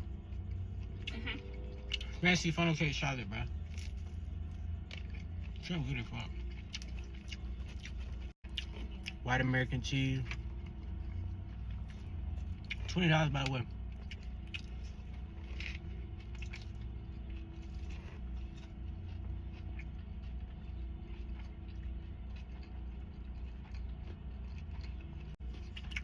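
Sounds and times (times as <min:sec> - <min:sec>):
person chewing food: 0:00.0 - 0:02.2, 0:03.5 - 0:09.2, 0:10.2 - 0:26.0
low hum: 0:00.0 - 0:26.0.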